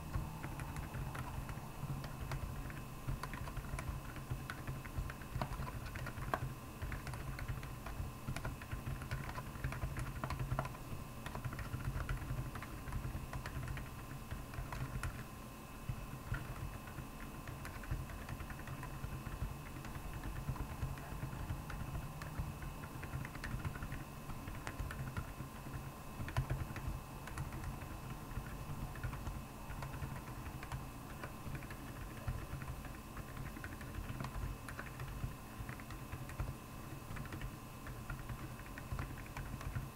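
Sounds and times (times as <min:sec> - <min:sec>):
background hum: 0:00.0 - 0:39.9
typing on mechanical keyboard: 0:00.1 - 0:15.3, 0:15.9 - 0:39.9.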